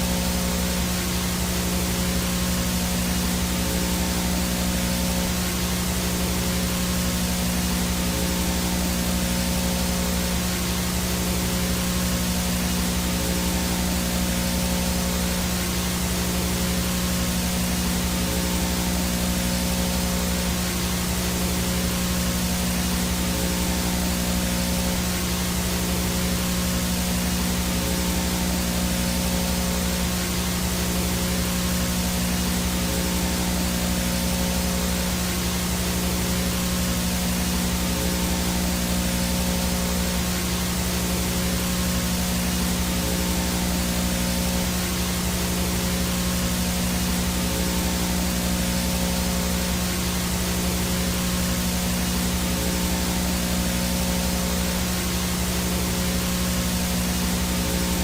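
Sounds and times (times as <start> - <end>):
static hiss: 0.0 - 58.0.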